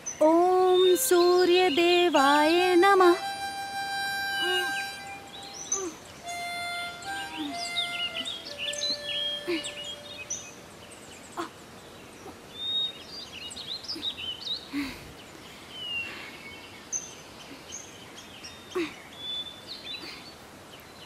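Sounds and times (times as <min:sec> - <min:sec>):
birds chirping and whistling: 0:00.0 - 0:21.0.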